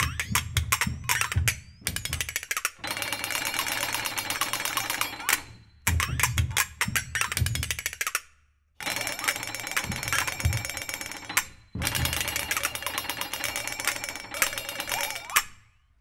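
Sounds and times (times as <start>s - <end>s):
flexatones rattling: 0.0s - 16.0s.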